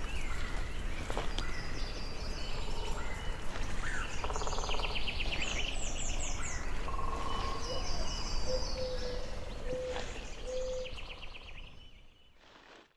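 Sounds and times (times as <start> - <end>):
birds chirping and trilling: 0.0 - 12.8.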